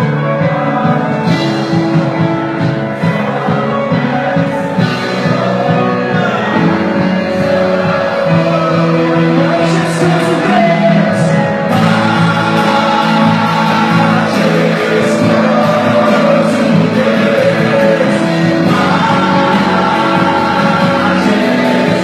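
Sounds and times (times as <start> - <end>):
people singing: 0.0 - 22.0
worship band playing: 0.0 - 22.0.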